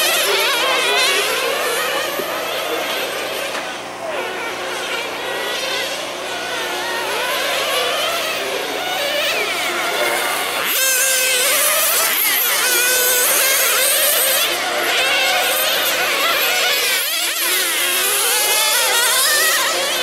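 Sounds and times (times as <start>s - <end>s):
model car engines buzzing: 0.0s - 20.0s.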